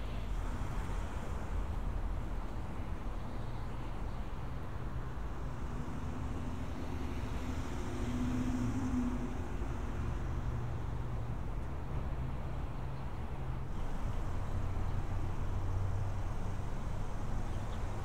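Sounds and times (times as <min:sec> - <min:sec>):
passing vehicle engine hum: 0:00.0 - 0:18.0
street traffic rumbling: 0:00.0 - 0:18.0.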